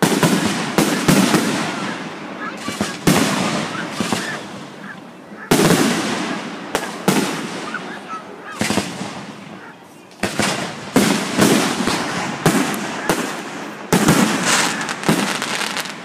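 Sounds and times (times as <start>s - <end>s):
firework bangs with rumbling echo: 0.0s - 4.8s, 5.5s - 9.6s, 10.2s - 16.0s.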